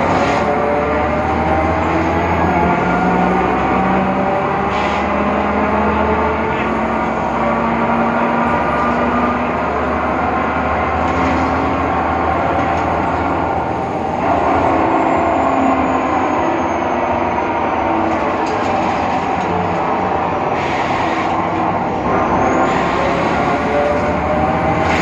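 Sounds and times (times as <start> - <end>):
bus drivetrain whine: 0.0 - 25.0.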